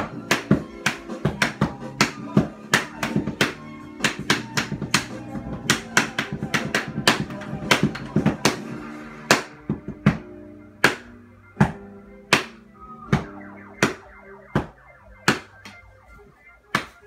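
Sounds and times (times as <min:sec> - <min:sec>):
song playing in background: 0:00.0 - 0:17.0.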